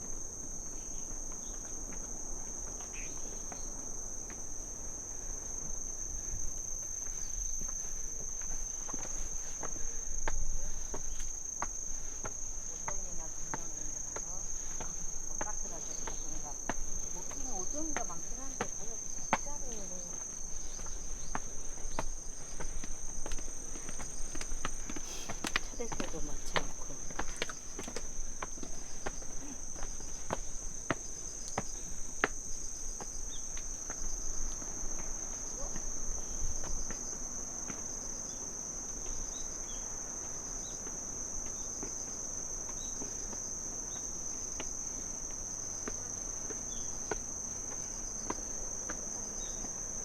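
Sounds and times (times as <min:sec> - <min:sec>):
crickets chirring: 0:00.0 - 0:50.0
footsteps clicking on a path: 0:00.0 - 0:50.0.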